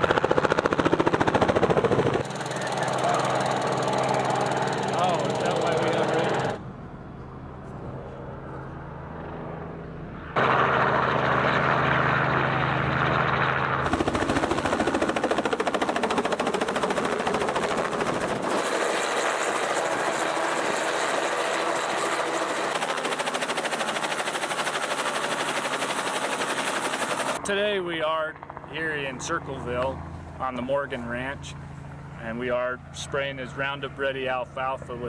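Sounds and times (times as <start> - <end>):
helicopter rotor chop: 0.0 - 9.8, 10.4 - 35.0.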